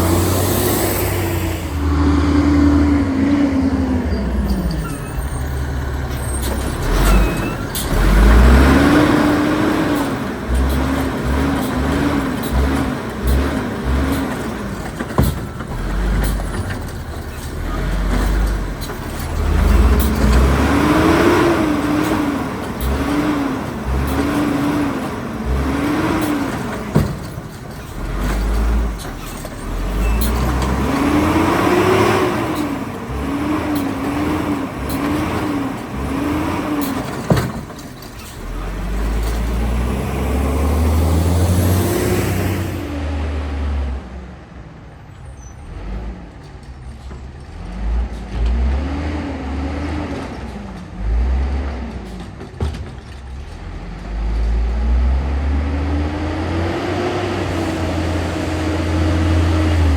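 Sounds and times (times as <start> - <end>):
garbage truck diesel engine revving: 0.0 - 44.8, 47.4 - 52.4, 53.3 - 59.9.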